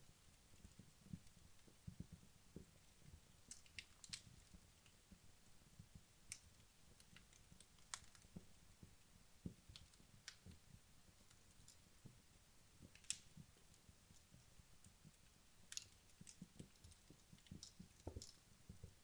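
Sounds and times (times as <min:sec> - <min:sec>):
logs crackling in a fireplace: 0:00.0 - 0:19.0.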